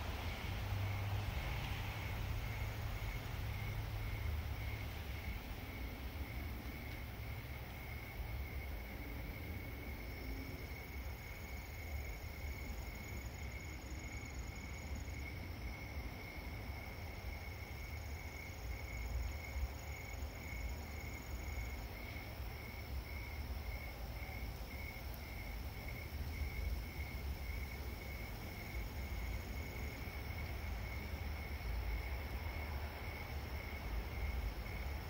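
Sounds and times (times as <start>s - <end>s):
high insect trills: 0.0s - 35.0s
insects chirping: 0.0s - 35.0s
low rumble of distant city: 0.0s - 35.0s.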